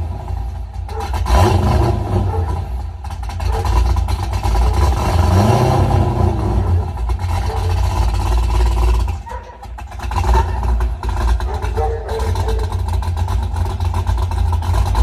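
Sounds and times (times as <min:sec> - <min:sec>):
cammed engine revving loud exhaust: 0:00.0 - 0:15.0.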